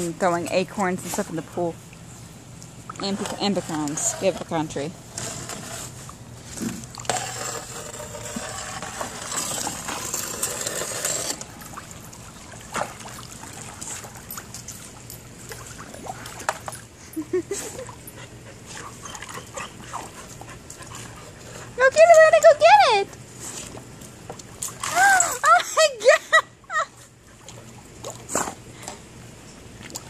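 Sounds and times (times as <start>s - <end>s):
water splashing in a pool: 5.0s - 25.9s, 26.8s - 30.0s.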